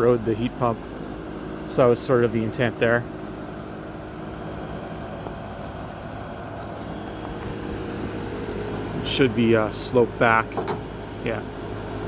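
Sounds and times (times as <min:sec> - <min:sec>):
compressor hum with steady tones: 0:00.0 - 0:12.0
fan rushing: 0:00.0 - 0:12.0.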